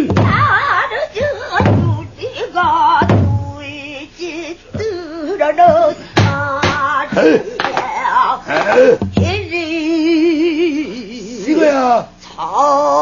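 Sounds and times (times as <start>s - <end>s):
woman singing with vibrato: 0.0s - 13.0s.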